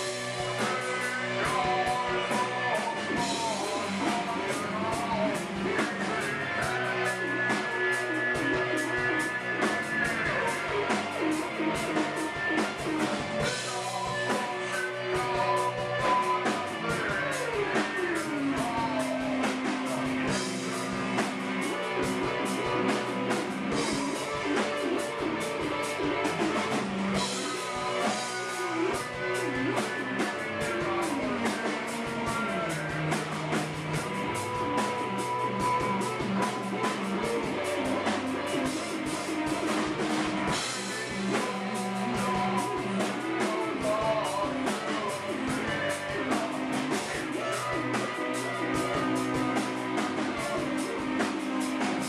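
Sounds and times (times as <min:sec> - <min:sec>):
drumming: 0:00.0 - 0:52.0
electric guitar sliding: 0:00.0 - 0:52.0.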